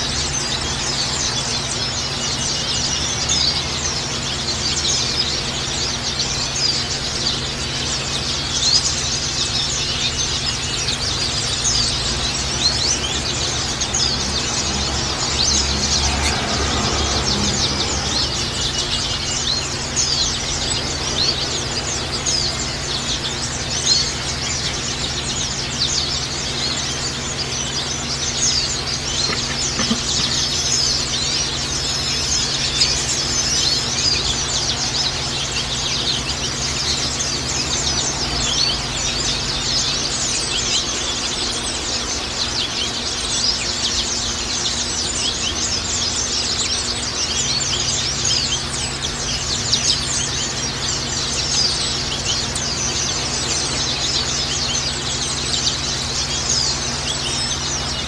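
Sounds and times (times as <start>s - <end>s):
birds chirping and twittering: 0.0s - 58.0s.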